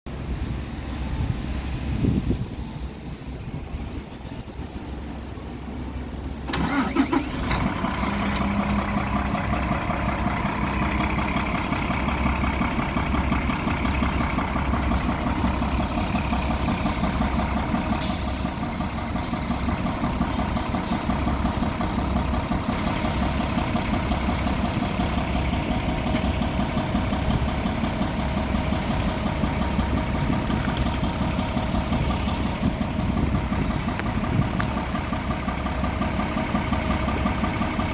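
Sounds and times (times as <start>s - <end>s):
diesel bus engine starting and idling: 0.1s - 37.9s.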